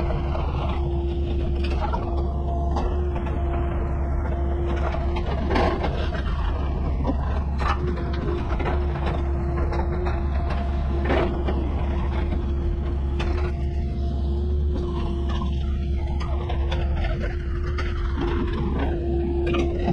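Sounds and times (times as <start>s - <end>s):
diesel engine running: 0.0s - 19.9s
machine whine: 0.0s - 19.9s.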